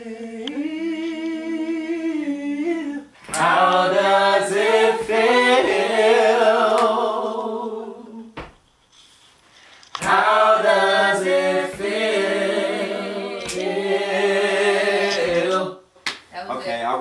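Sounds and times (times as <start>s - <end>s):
men singing a cappella: 0.0s - 8.4s, 10.0s - 15.9s.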